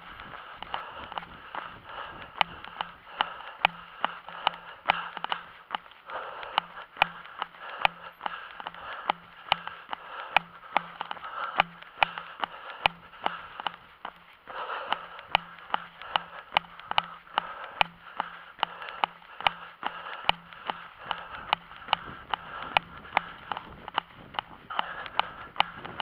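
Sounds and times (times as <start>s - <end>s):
running footsteps on pavement: 0.0s - 26.0s.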